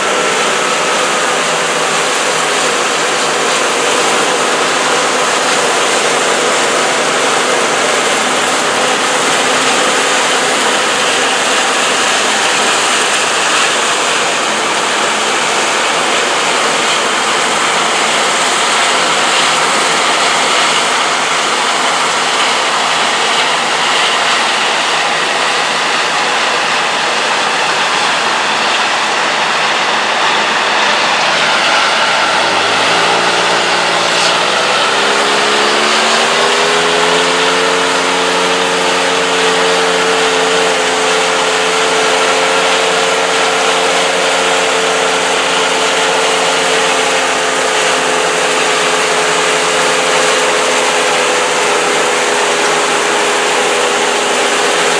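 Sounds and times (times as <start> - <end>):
combine harvester engine: 0.0 - 54.9
threshing machinery: 0.0 - 54.9.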